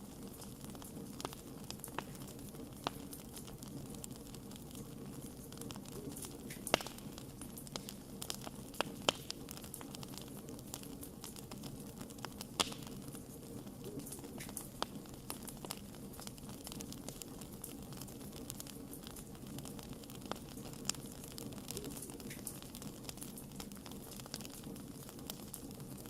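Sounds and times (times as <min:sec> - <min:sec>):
wood fire burning: 0:00.0 - 0:26.0.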